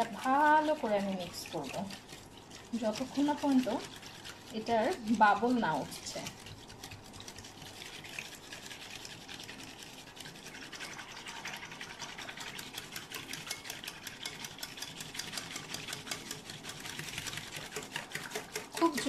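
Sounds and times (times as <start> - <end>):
whisk swishing through liquid: 0.0 - 19.0
whisk ticking against bowl: 0.0 - 19.0.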